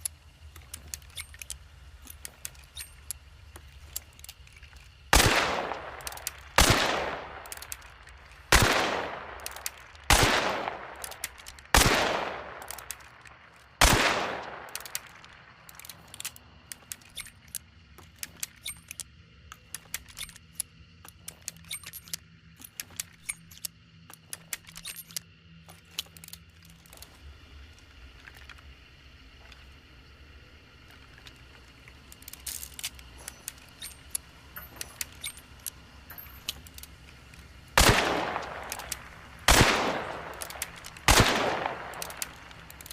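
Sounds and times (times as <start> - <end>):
small metallic clicks and rattles: 0.0 - 42.9.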